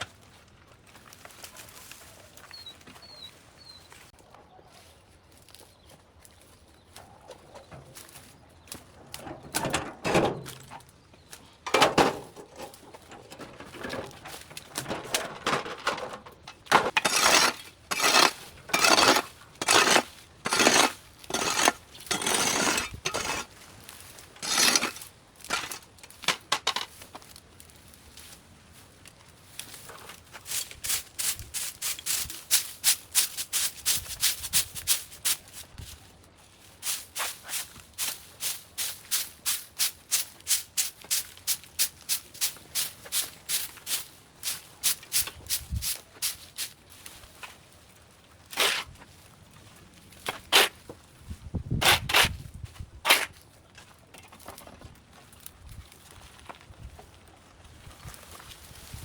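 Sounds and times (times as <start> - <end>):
scraping and rustling strokes: 0.1 - 9.8, 10.4 - 59.0.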